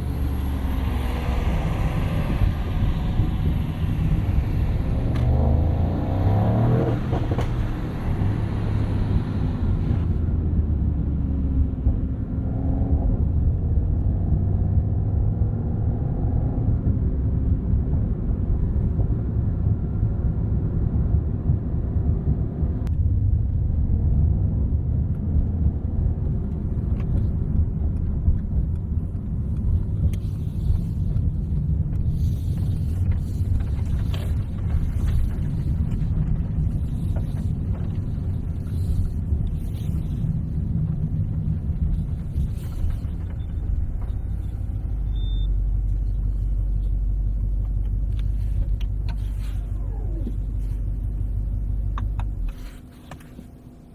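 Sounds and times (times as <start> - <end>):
car engine low rumble: 0.0 - 53.9.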